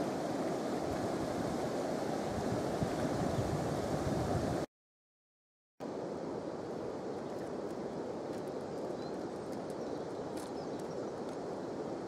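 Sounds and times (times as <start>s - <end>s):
river water flowing over pebbles: 0.0s - 3.8s, 5.9s - 12.0s.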